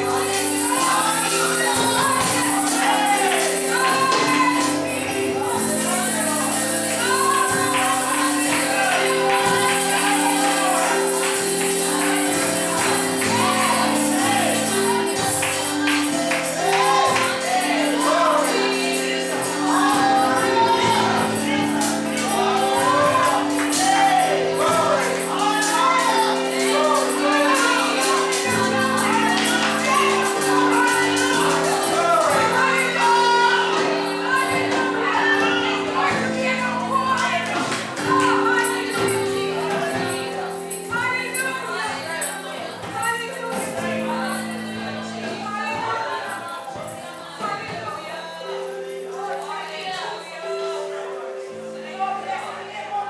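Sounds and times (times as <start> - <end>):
tambourine shaken and struck: 0.0 - 47.9
congregation singing: 0.0 - 53.0.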